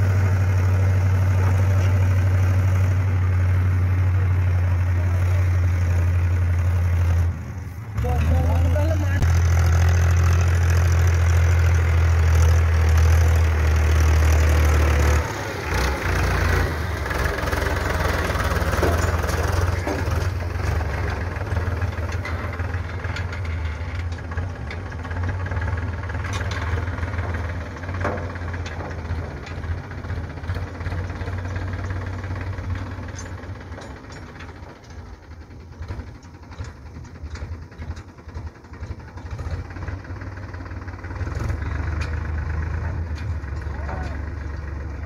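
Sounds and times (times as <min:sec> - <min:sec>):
tractor diesel engine running: 0:00.0 - 0:45.0
knocks and rattles: 0:08.0 - 0:45.0.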